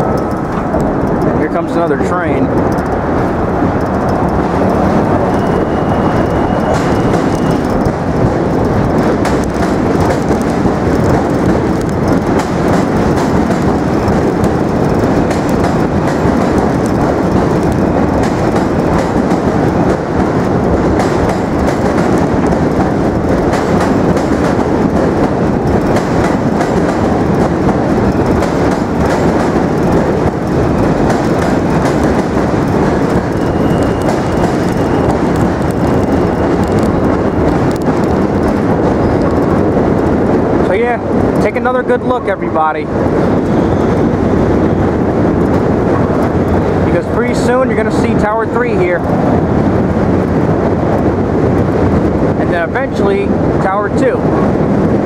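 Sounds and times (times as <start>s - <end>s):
train rumbling along rails: 0.0s - 55.0s.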